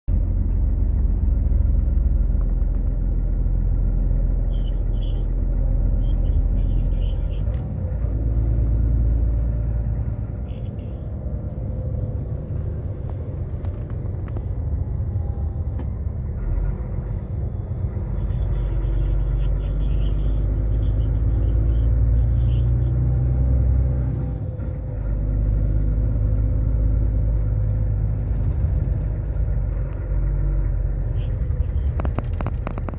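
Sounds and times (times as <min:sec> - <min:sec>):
vehicle engine and road noise: 0:00.0 - 0:32.9.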